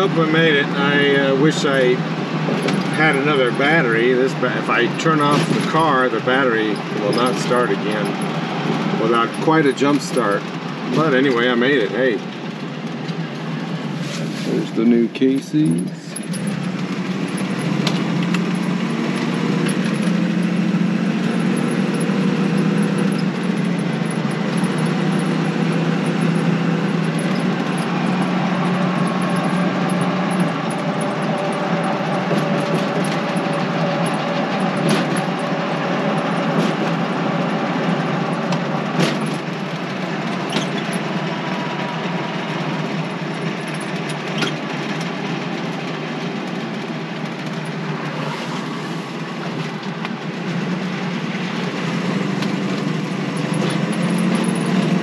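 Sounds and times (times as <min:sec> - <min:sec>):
car engine droning: 0:00.0 - 0:55.0
road noise: 0:00.0 - 0:55.0.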